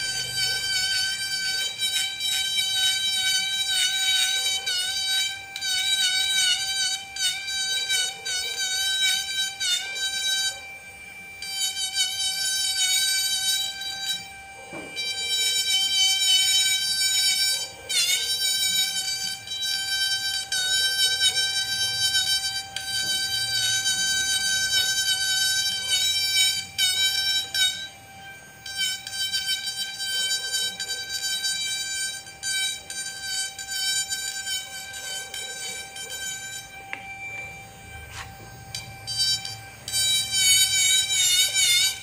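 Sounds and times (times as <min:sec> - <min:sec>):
bit scratching wood: 0:00.0 - 0:42.0
rotary carving tool whining: 0:00.0 - 0:42.0.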